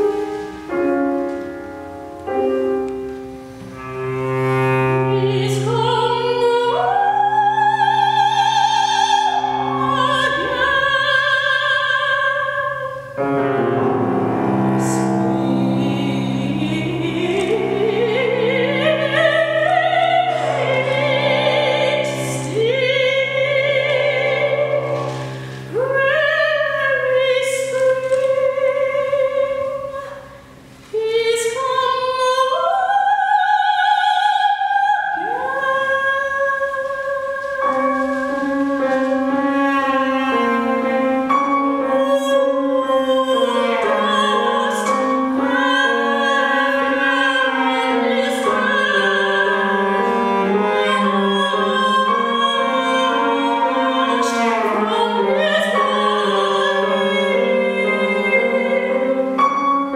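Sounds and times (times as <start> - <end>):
cello: 0.0 - 59.9
piano: 0.0 - 59.9
soprano singing: 0.0 - 59.9.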